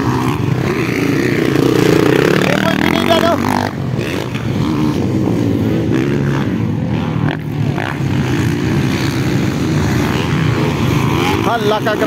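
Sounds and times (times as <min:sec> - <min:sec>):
dirt bike engines running hard: 0:00.0 - 0:12.0.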